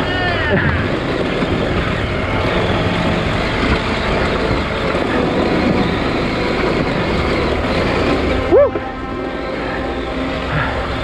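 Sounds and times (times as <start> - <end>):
motorcycle engine under load: 0.0 - 11.0
wind noise on microphone: 0.0 - 11.0.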